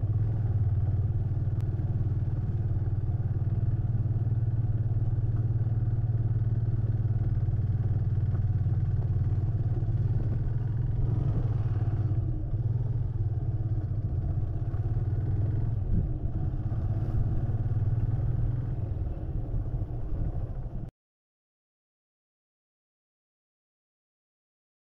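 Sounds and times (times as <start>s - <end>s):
motorcycle engine running: 0.0s - 20.9s
wind and road noise: 0.0s - 20.9s.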